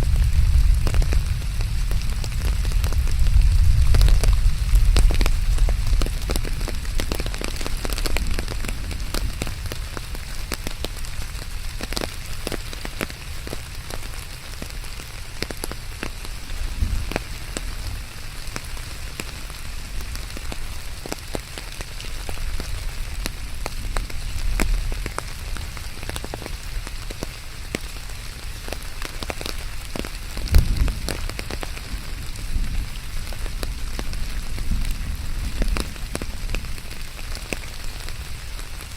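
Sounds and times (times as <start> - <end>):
rain drops splattering: 0.0 - 38.9.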